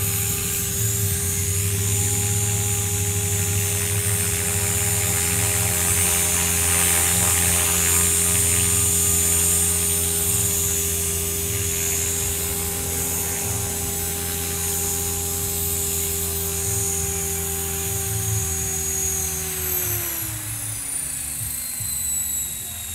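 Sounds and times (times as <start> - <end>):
rc helicopter motor and rotor whine: 0.0 - 22.9.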